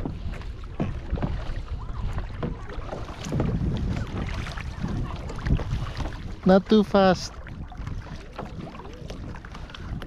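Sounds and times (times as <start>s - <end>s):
paddles splashing in water: 0.0s - 10.0s
wind rumble on microphone: 0.0s - 10.0s.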